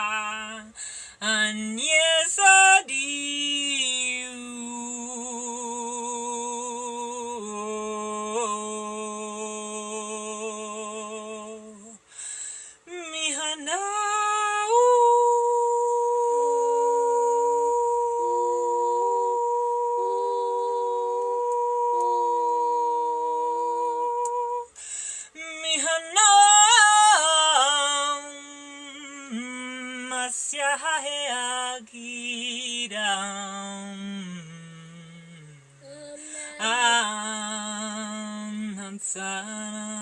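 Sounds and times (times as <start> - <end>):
woman singing wordlessly: 0.0 - 12.1, 12.8 - 24.8, 25.4 - 40.0.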